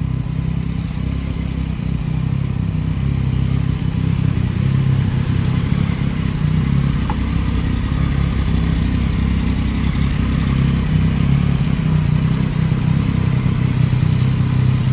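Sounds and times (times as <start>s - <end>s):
motorcycle engine running steadily: 0.0s - 14.9s.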